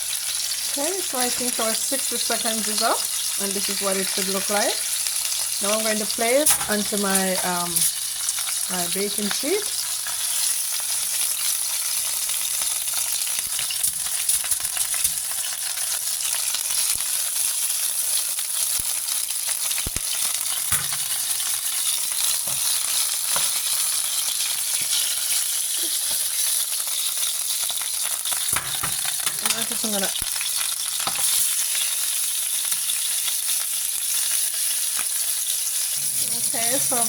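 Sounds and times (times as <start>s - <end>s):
steak sizzling in a frying pan: 0.0s - 37.0s.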